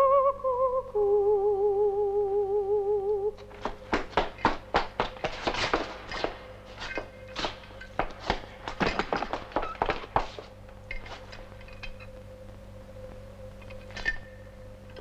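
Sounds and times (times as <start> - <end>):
faint steady soundtrack hum: 0.0 - 15.0.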